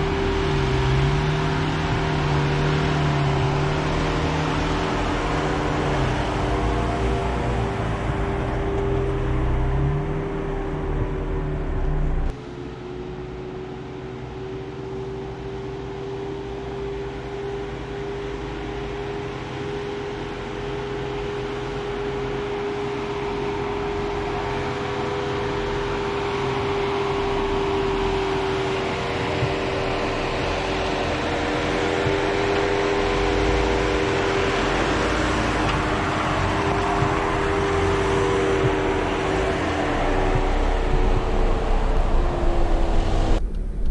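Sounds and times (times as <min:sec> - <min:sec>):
engine hum: 0:00.0 - 0:43.9.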